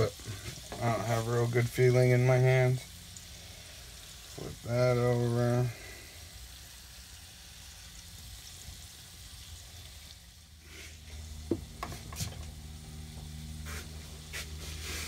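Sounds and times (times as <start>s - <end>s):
fish sizzling in a frying pan: 0.0s - 15.0s.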